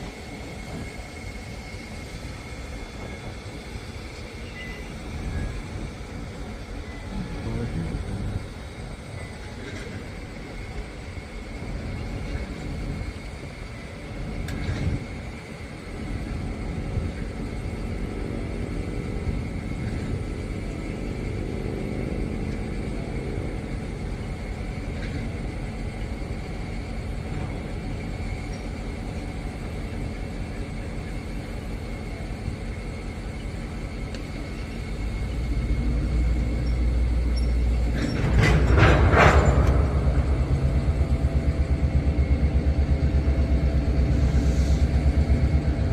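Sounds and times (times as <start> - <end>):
faint high whine: 0.0 - 38.3
diesel locomotive rumbling: 0.0 - 45.9.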